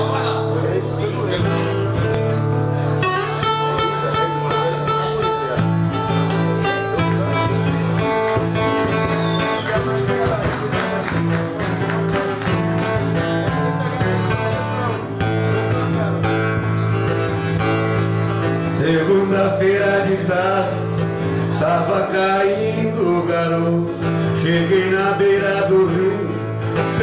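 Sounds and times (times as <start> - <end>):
acoustic guitars strumming: 0.0 - 27.0.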